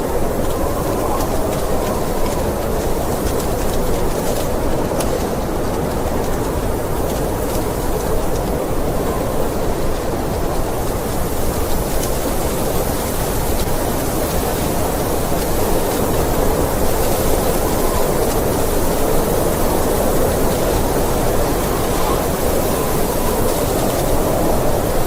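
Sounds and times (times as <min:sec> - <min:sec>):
snowstorm wind blowing: 0:00.0 - 0:25.0.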